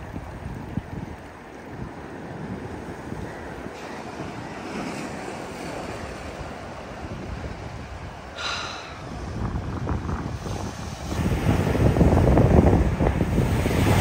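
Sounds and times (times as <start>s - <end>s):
sea surf over rocks: 0.0s - 14.0s
wind on microphone: 0.0s - 14.0s.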